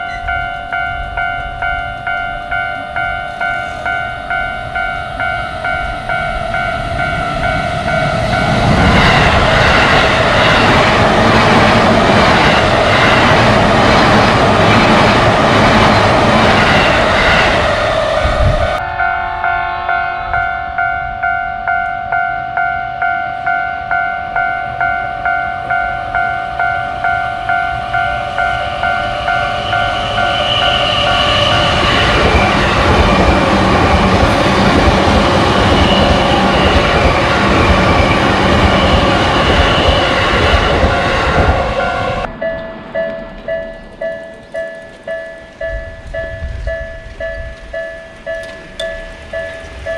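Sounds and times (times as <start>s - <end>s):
level crossing warning bell: 0.0s - 13.4s, 14.0s - 49.9s
train wheels rushing on rails: 0.0s - 22.2s, 25.6s - 49.9s
higher crossing bell: 0.0s - 49.9s.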